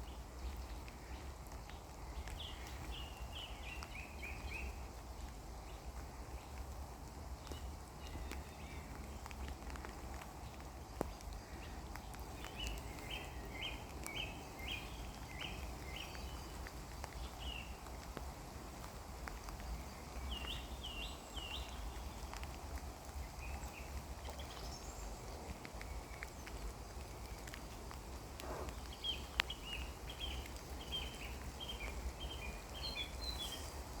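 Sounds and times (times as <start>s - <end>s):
birds singing: 0.0s - 34.0s
rain hissing: 0.0s - 34.0s.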